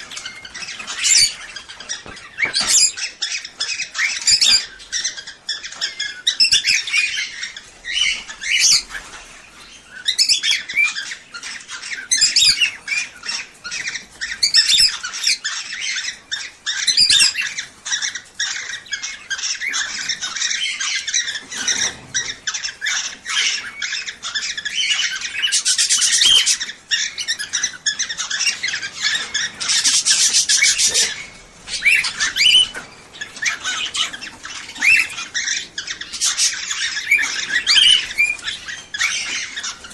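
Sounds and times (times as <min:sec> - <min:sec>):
cage birds chirping and squawking: 0:00.0 - 0:39.9
harsh rasping bird chatter: 0:00.0 - 0:39.9.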